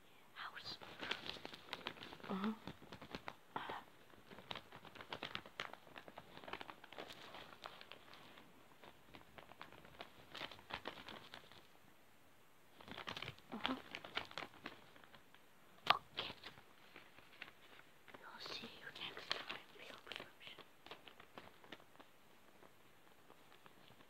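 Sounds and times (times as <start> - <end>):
crinkling and tapping handling noise: 0.7 - 11.8, 12.7 - 24.0.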